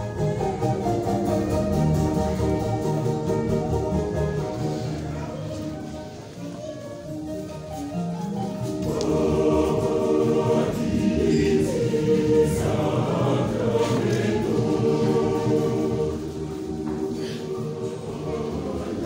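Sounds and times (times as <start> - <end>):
choir singing in harmony: 0.0 - 6.4, 8.4 - 19.0.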